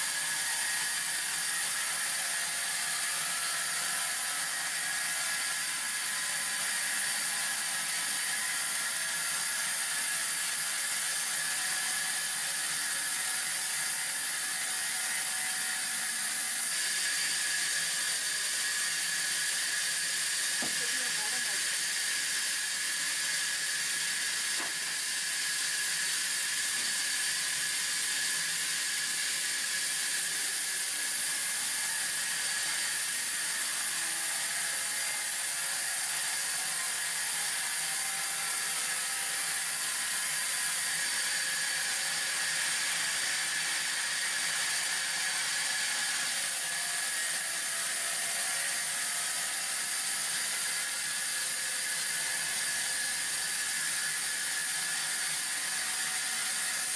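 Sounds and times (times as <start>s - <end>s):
band saw cutting wood: 0.0s - 56.9s.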